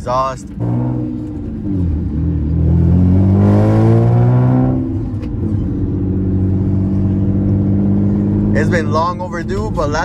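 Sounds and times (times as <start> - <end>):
car engine accelerating: 0.4 - 10.0.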